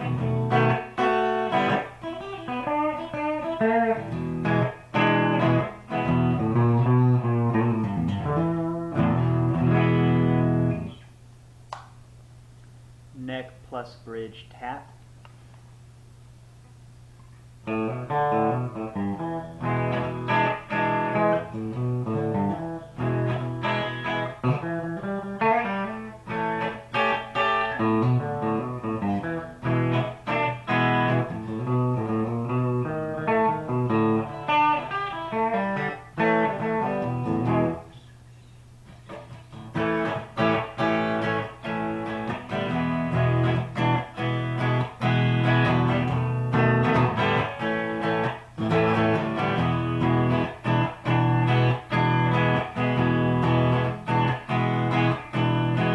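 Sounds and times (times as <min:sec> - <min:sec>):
electric guitar picking notes and chords: 0:00.0 - 0:11.1, 0:17.6 - 0:38.0, 0:38.8 - 0:55.9.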